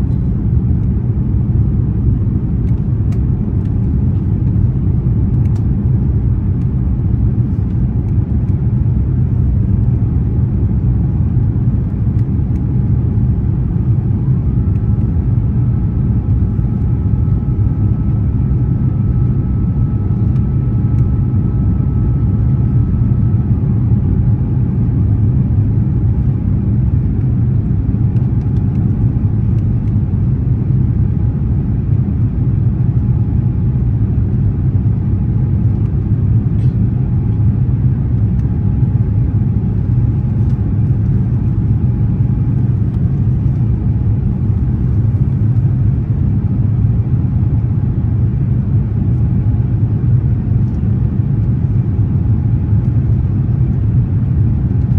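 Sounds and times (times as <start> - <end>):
jet airliner cabin rumble: 0.0 - 54.9.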